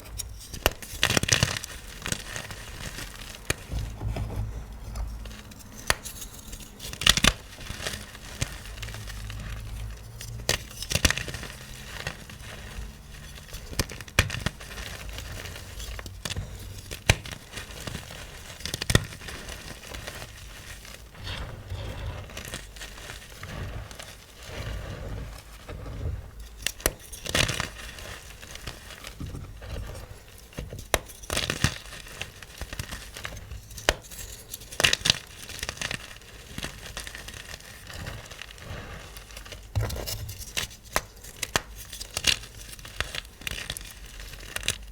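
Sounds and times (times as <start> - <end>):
chalk crunching and crumbling: 0.0 - 44.9.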